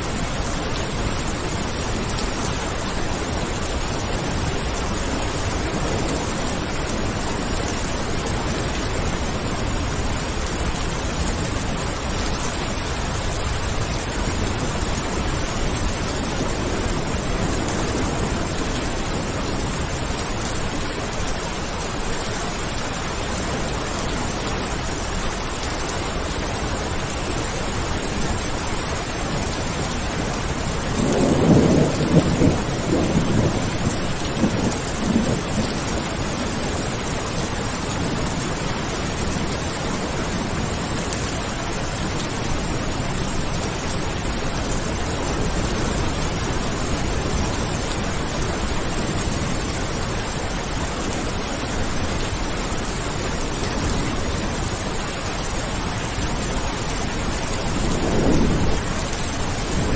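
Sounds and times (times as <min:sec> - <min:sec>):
thunder rumbling: 0:00.0 - 0:24.0, 0:24.7 - 0:59.9
heavy rain: 0:00.0 - 0:59.9.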